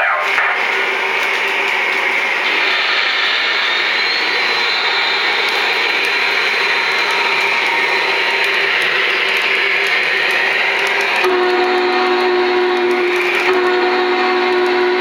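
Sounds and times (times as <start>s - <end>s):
multi-chime steam whistle: 0.0s - 15.0s
steam hiss: 0.3s - 15.0s.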